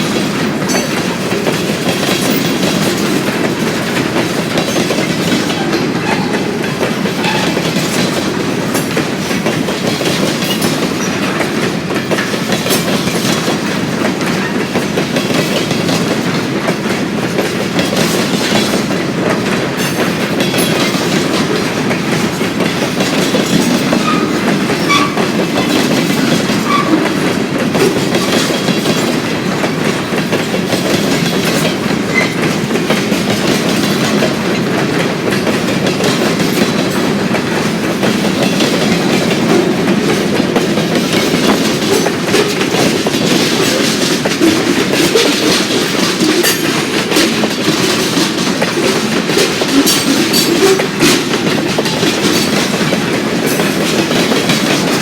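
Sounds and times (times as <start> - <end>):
freight train cars rolling past: 0.0 - 55.0
train wheels clicking over rails: 0.0 - 55.0.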